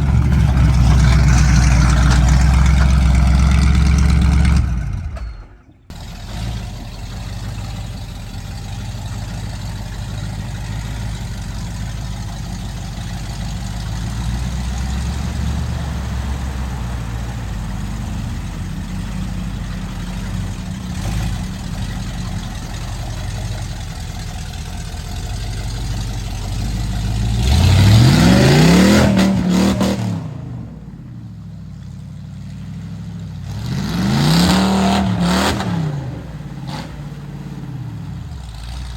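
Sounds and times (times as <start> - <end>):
truck engine rumbling and revving: 0.0 - 38.9.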